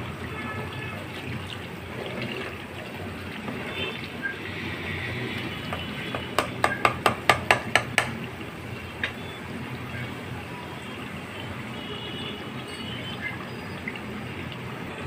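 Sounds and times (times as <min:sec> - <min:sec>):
bubbling sizzle in a pot: 0:00.0 - 0:15.0.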